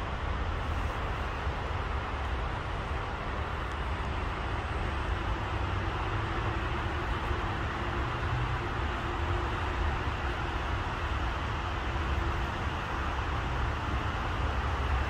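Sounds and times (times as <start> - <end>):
constant hiss: 0.0 - 15.0.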